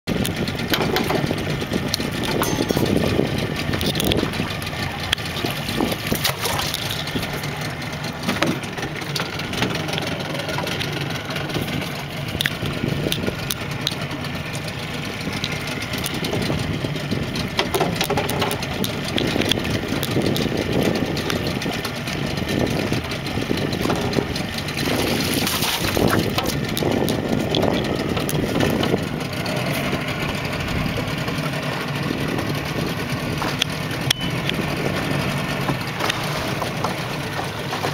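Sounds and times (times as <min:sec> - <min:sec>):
outboard motor idling: 0:00.0 - 0:37.9.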